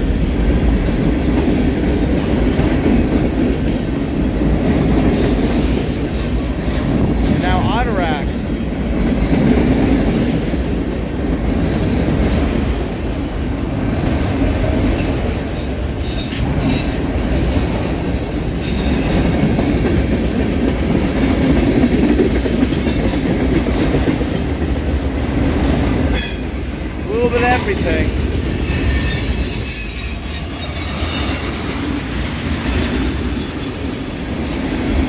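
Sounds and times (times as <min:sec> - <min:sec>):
freight train cars rolling: 0:00.0 - 0:35.0.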